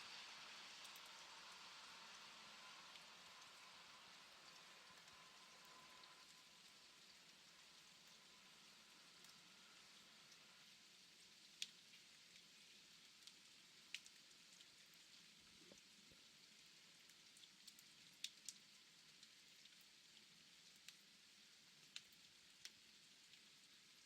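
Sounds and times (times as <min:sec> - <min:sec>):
faint steady rain: 0:00.0 - 0:24.0
water drips: 0:00.0 - 0:24.0.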